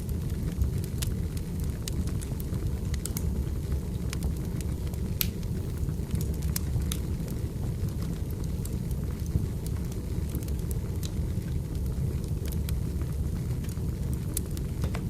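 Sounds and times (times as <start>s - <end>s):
fire rumbling: 0.0s - 15.0s
logs crackling and popping: 0.0s - 15.0s.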